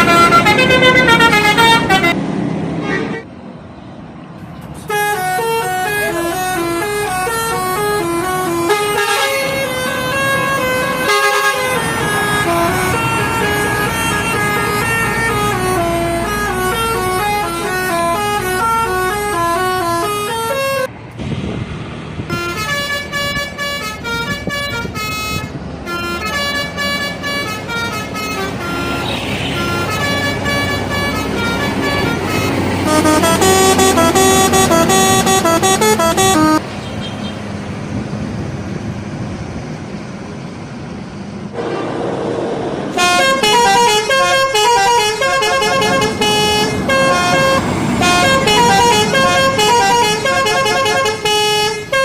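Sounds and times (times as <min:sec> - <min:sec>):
multi-note air horns: 0:00.0 - 0:02.2, 0:04.8 - 0:20.9, 0:22.3 - 0:36.6, 0:41.6 - 0:42.2, 0:42.9 - 0:52.0.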